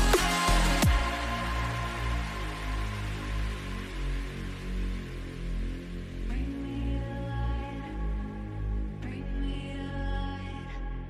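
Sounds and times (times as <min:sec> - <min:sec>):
sustained chords music: 0:00.0 - 0:11.0.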